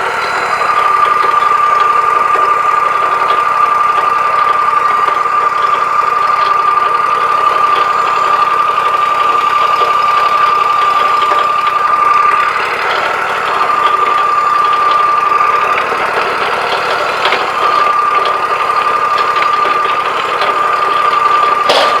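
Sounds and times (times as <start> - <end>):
band saw blade whining through log: 0.0 - 22.0
sawmill engine: 0.0 - 22.0.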